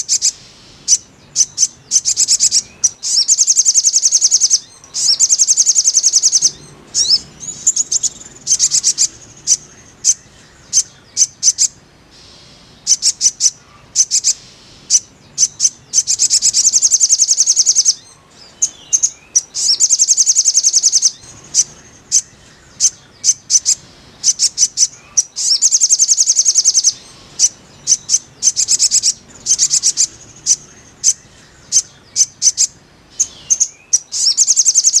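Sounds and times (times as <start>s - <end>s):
bird chattering trills: 0.0s - 35.0s
sharp bird chirps: 0.0s - 35.0s.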